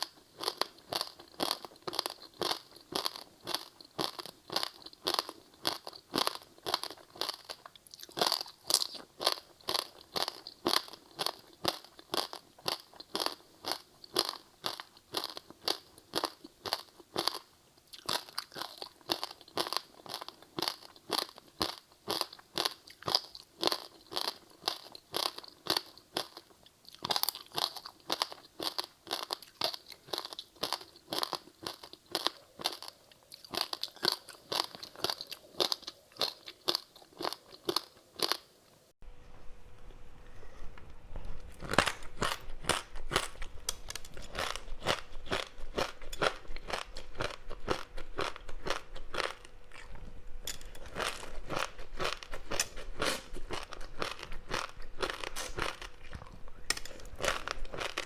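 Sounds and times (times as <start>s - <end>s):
crunching and chewing snack: 0.0s - 38.5s, 41.1s - 58.0s.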